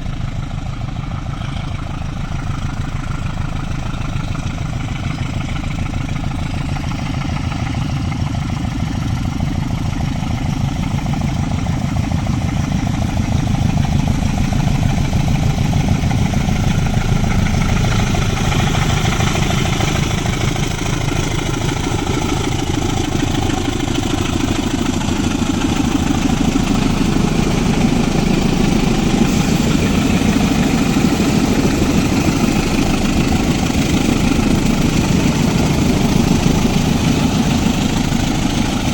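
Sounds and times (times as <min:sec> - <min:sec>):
diesel locomotive engines rumbling: 0:00.0 - 0:38.9.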